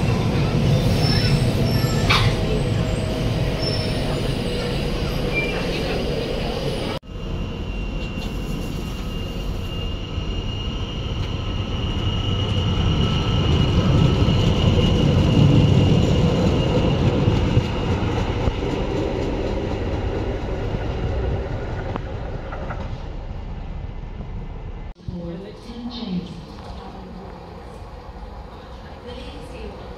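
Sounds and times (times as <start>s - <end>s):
electric train passing: 0.0s - 29.9s.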